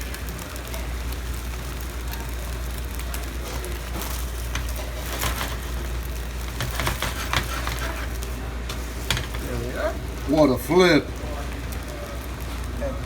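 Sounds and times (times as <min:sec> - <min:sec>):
omelette sizzling in frying pan: 0:00.0 - 0:13.0.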